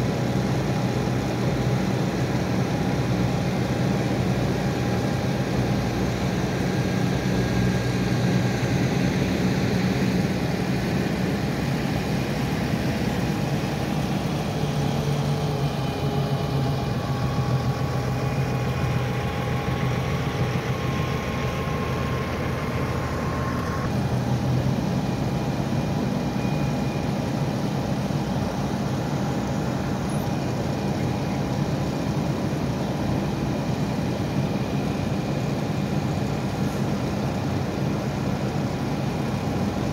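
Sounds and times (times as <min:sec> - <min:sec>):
vehicle engines idling: 0:00.0 - 0:39.9
faint whining tones: 0:02.2 - 0:38.2.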